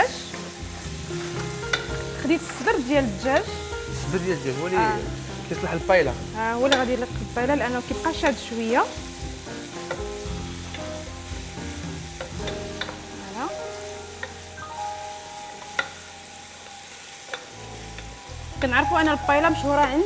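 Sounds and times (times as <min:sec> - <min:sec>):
onion sizzling in a pan: 0:00.0 - 0:20.0.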